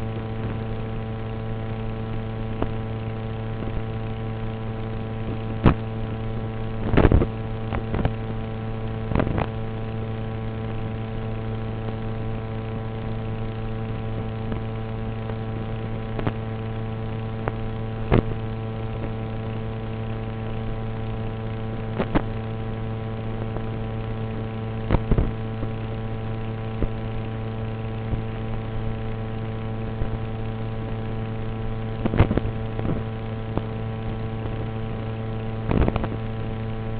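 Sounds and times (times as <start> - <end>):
steady hum with overtones: 0.0 - 36.9.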